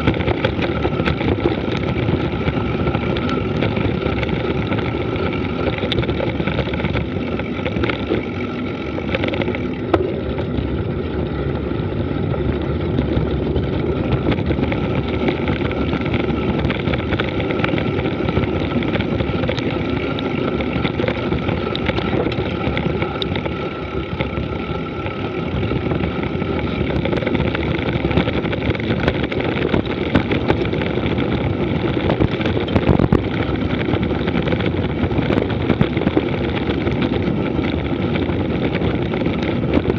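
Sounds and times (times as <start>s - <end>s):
bike tyres rattling over gravel: 0.0s - 39.9s
wind rushing over microphone: 0.0s - 39.9s.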